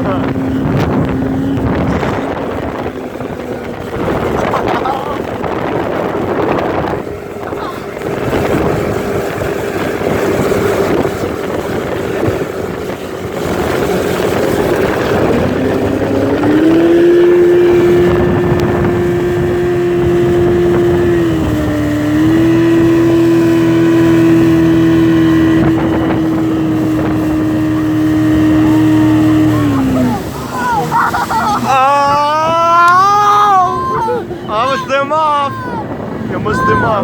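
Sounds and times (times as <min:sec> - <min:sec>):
motorboat engine: 0:00.0 - 0:37.0
water noise: 0:00.0 - 0:37.0
wind: 0:00.0 - 0:37.0.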